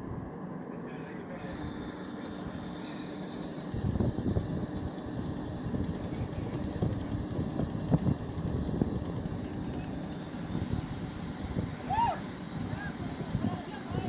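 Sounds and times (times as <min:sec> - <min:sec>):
boat engine running: 0:00.0 - 0:14.0
wind: 0:00.0 - 0:14.0.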